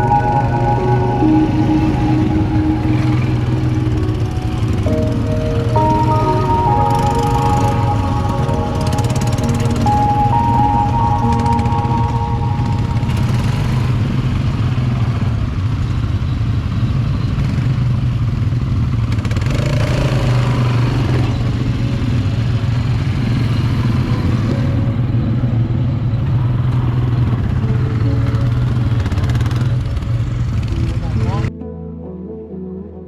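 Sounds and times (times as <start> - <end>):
quad bike engine droning: 0.0 - 31.5.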